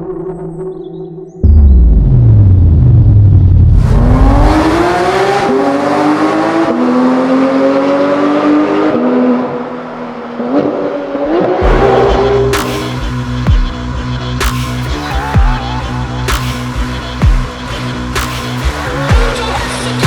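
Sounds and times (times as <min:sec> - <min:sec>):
car engine accelerating hard: 0:02.0 - 0:20.0.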